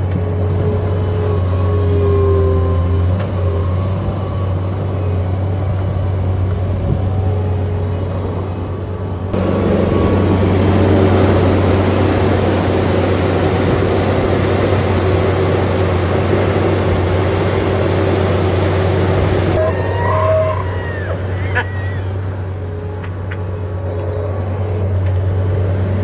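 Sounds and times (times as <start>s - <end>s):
engine running with mechanical rush: 0.0s - 26.0s.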